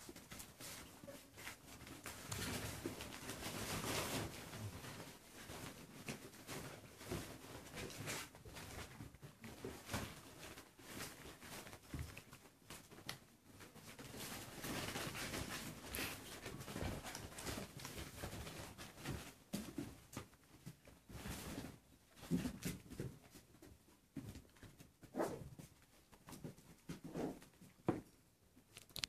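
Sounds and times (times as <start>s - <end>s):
pattering of paws: 0.0s - 28.2s.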